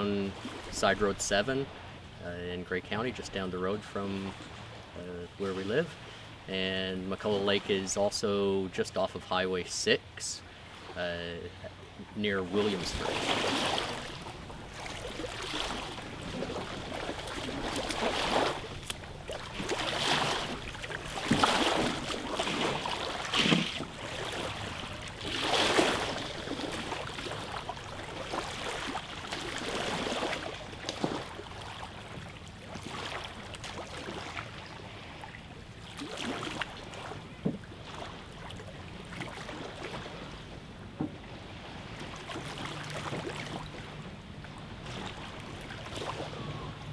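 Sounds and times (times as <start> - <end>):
canoe paddles dipping in water: 0.0 - 46.9.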